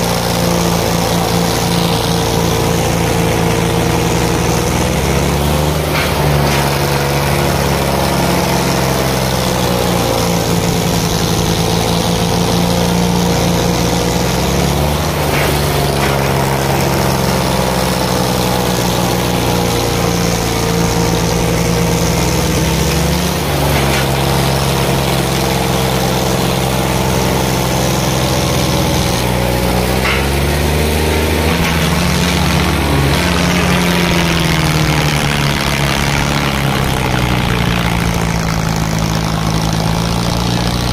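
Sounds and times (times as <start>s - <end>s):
tractor diesel engines running: 0.0s - 40.9s.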